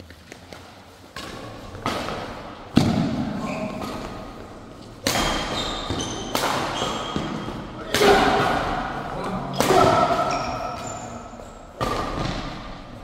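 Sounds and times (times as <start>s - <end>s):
racket striking shuttlecock: 0.5s - 11.0s, 11.8s - 12.8s.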